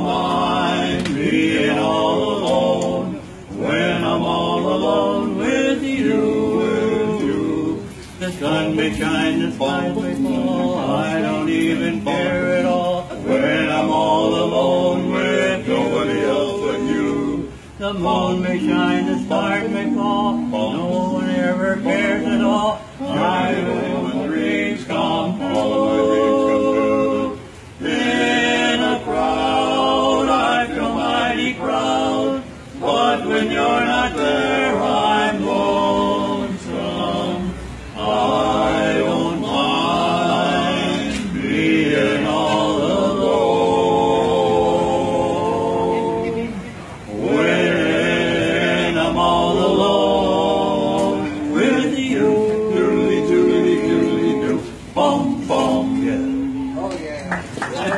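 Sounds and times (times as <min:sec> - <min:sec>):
male vocal quartet singing: 0:00.0 - 0:56.9.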